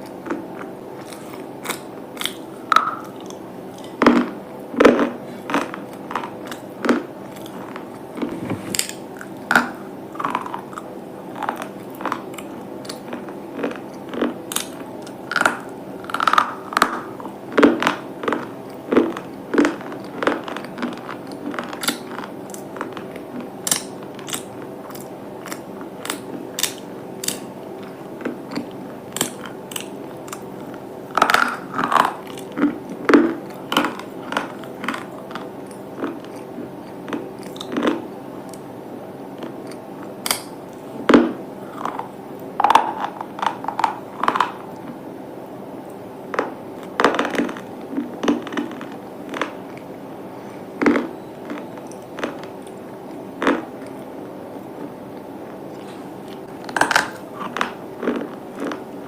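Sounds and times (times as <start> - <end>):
crunchy chewing: 0.0 - 38.7, 39.3 - 45.1, 45.8 - 59.0
faint steady hum: 0.0 - 59.0.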